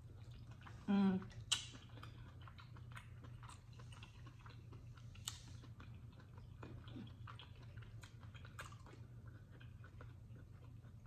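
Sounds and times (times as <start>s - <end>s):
wet chewing mouth clicks: 0.0s - 11.0s.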